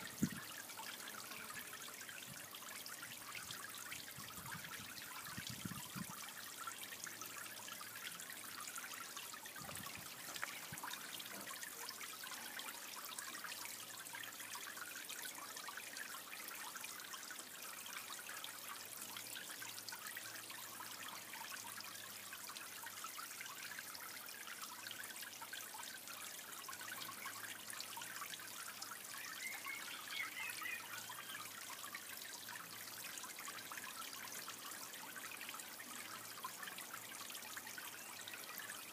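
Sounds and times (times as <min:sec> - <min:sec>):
water trickling into pond: 0:00.0 - 0:38.9.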